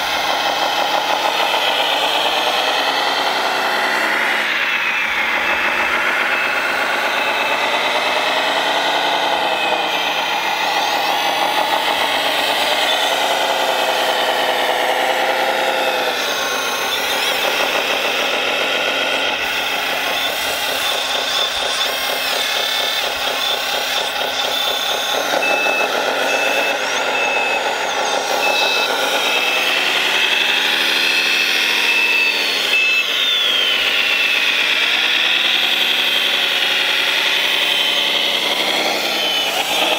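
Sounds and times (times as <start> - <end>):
reversing beeper: 0.0 - 39.9
simulated diesel engine revving: 0.0 - 39.9.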